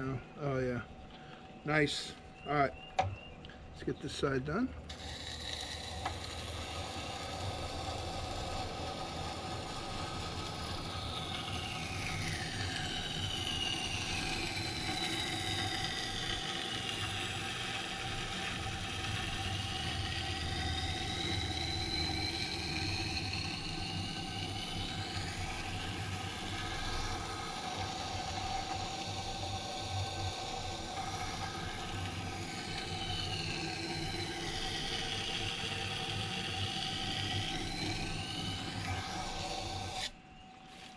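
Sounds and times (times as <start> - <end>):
sharpening stone motor hum: 4.2 - 40.9
knife blade grinding on stone: 4.9 - 40.9.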